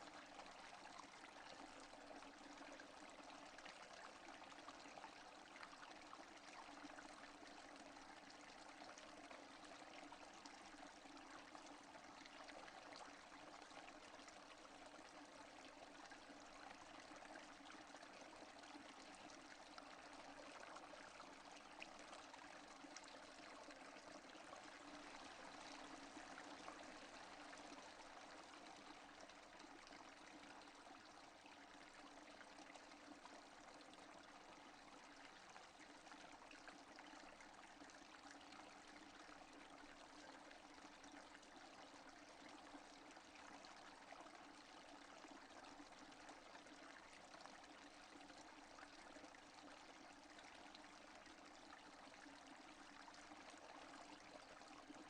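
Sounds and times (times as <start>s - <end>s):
faint steady rain: 0.0s - 55.0s.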